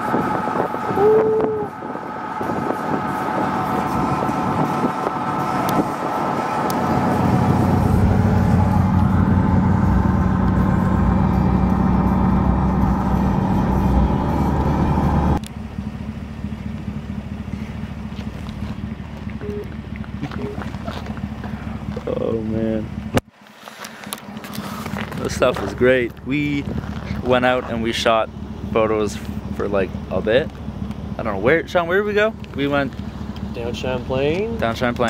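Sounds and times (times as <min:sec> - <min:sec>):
car engine and road noise: 0:00.0 - 0:35.0
low engine hum: 0:00.0 - 0:35.0.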